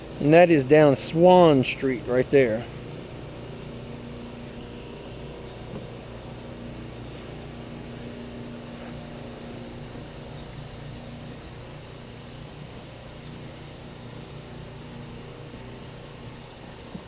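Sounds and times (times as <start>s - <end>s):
engine humming with low drone: 0.0s - 17.0s.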